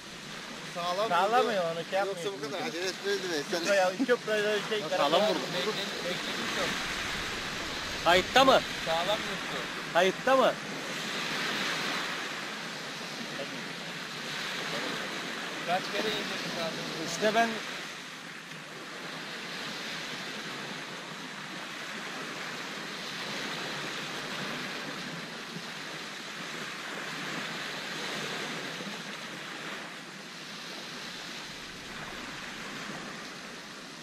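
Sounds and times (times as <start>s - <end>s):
waves washing onto shore: 0.0s - 34.0s.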